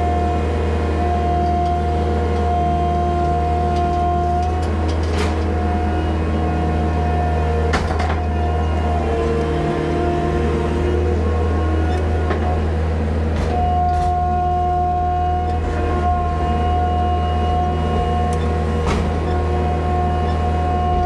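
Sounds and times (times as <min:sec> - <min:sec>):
diesel engine running: 0:00.0 - 0:21.0
hydraulic whine: 0:00.0 - 0:21.0.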